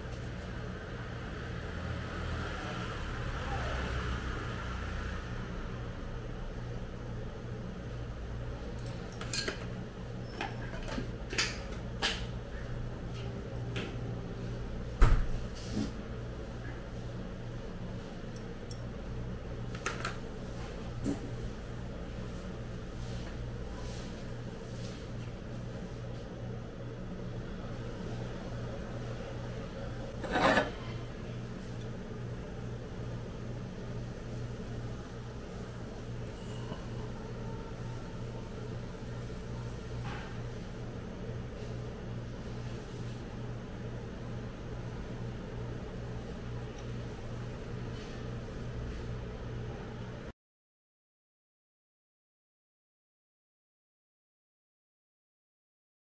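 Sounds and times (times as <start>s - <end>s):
low machine hum with pulsing tone: 0.0s - 50.3s.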